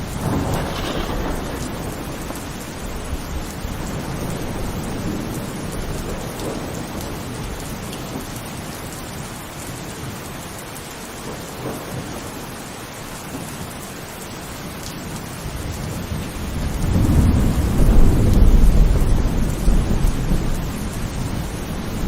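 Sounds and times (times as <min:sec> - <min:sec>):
low rumble of thunder: 0:00.0 - 0:10.2, 0:11.2 - 0:12.7, 0:15.4 - 0:22.0
heavy rain: 0:00.0 - 0:22.0.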